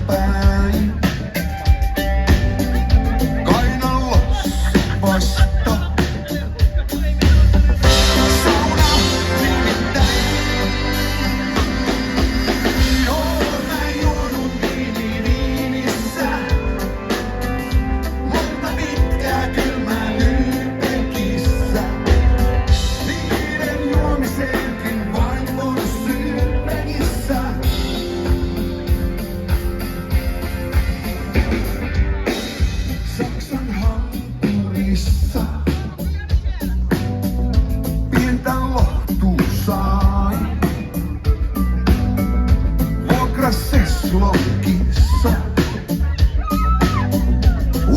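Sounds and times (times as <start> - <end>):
person singing lead vocal: 0.0 - 29.2, 32.3 - 37.3, 37.9 - 47.9
live rock band playing: 0.0 - 47.9.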